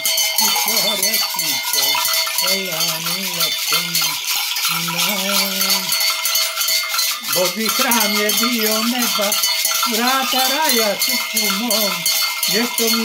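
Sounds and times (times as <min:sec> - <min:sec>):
maracas and bells rattling: 0:00.0 - 0:13.0.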